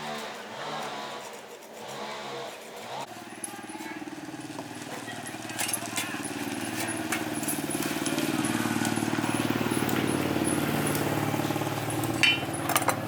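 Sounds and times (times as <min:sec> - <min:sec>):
engine running steadily: 0:01.9 - 0:13.0.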